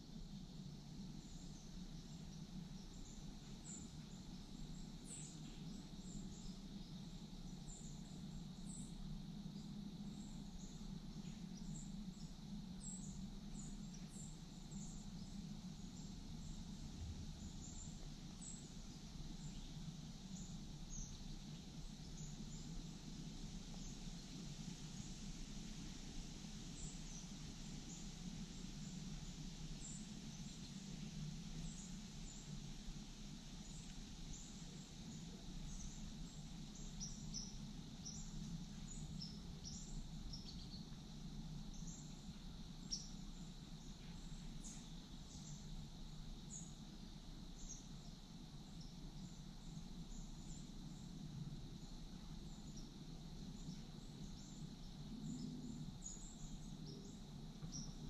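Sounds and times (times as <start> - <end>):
low steady background noise: 0.0 - 58.0.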